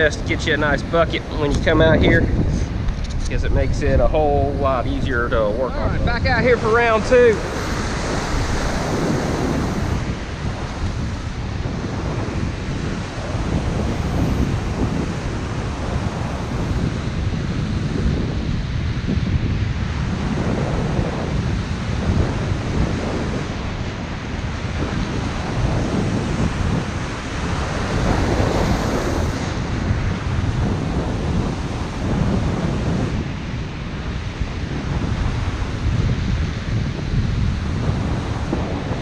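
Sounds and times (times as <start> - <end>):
ocean surf breaking: 0.0 - 18.8, 19.9 - 39.0
wind buffeting microphone: 0.0 - 39.0.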